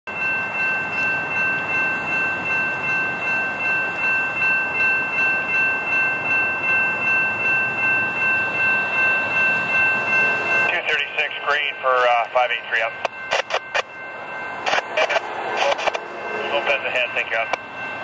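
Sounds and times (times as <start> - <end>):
crossing warning bell ringing: 0.1 - 18.0.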